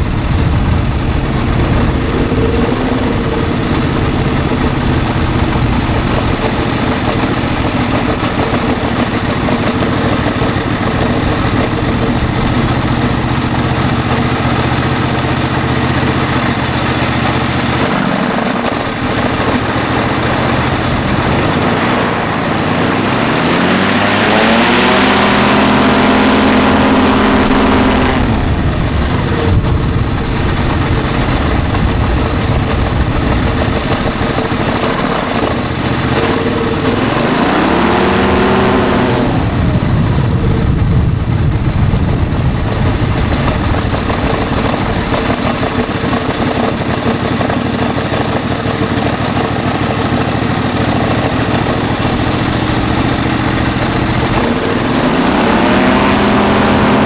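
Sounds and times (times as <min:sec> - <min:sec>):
engine turning a propeller: 0:00.0 - 0:57.0.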